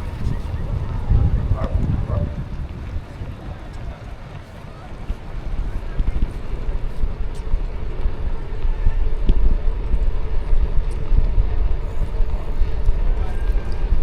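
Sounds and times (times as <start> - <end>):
bike rolling noise: 0.0 - 14.0
wind buffeting microphone: 0.0 - 14.0.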